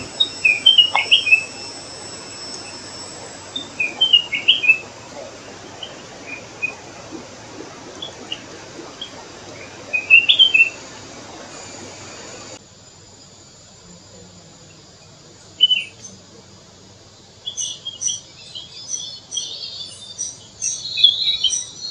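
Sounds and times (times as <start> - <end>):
bird chirping: 0.0 - 12.6, 14.1 - 16.5, 17.3 - 21.9.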